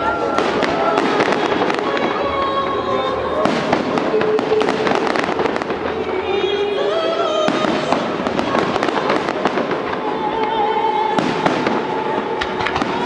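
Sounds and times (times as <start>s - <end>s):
fireworks bursting and crackling: 0.0s - 13.0s
music with long held notes: 0.0s - 13.0s.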